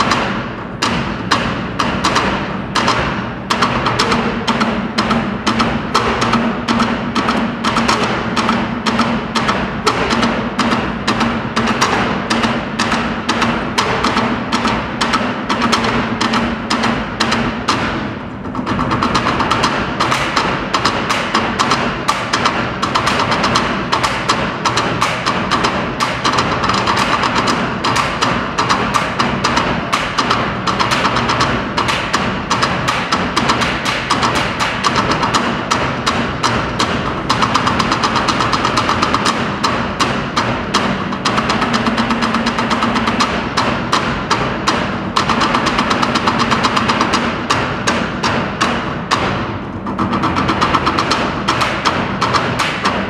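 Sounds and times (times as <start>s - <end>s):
music with driving percussion beat: 0.0s - 53.0s.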